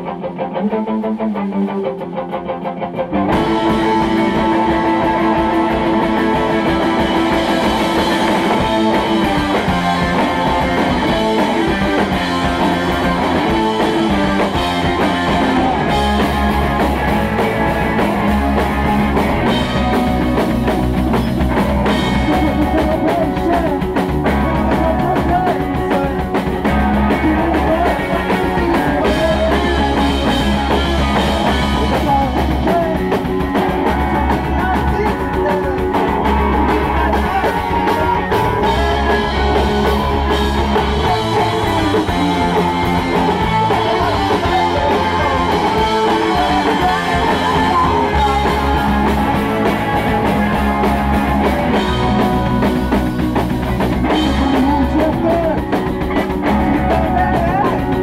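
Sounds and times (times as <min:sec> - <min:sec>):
electric guitar: 0:00.0 - 0:58.0
drum kit: 0:03.2 - 0:58.0.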